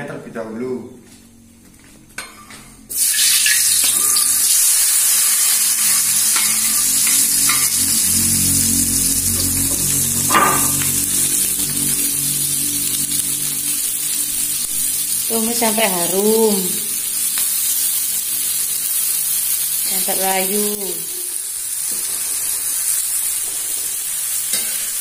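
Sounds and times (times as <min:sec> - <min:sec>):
food sizzling in hot oil: 0:02.9 - 0:25.0.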